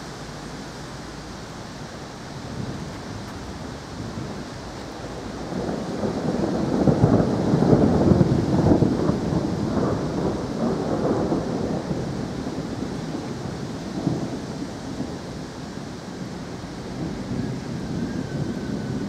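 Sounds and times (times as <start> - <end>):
rain hissing: 0.0 - 19.0
thunder rumbling: 2.3 - 19.0.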